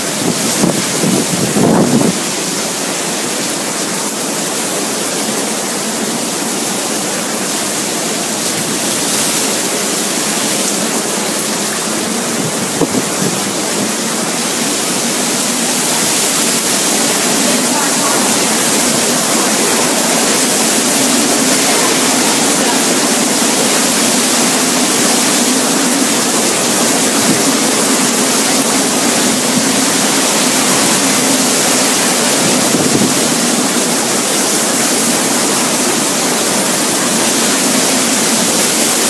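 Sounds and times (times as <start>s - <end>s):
driving rain: 0.0s - 39.0s
hurricane wind: 0.0s - 39.0s.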